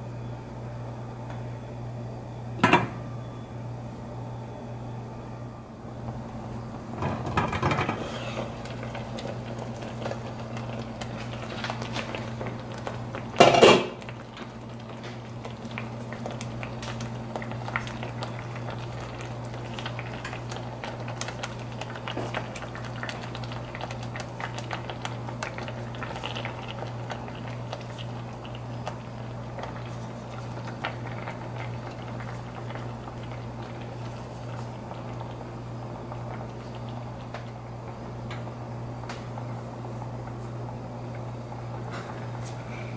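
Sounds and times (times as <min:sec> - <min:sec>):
broth bubbling in a pan: 0:06.3 - 0:42.9.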